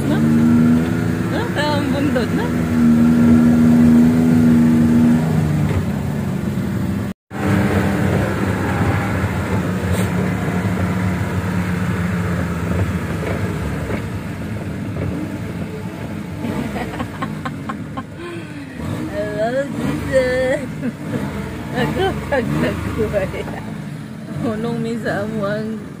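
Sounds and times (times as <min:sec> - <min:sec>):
vehicle engine running: 0:00.0 - 0:26.0
wind and road noise: 0:00.0 - 0:26.0.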